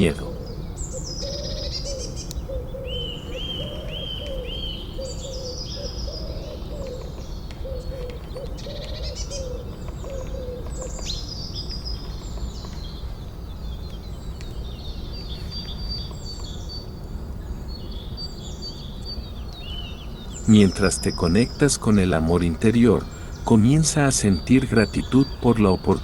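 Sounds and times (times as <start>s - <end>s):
soft low bird call: 0.0s - 16.9s, 17.6s - 26.0s
birds singing: 0.0s - 26.0s.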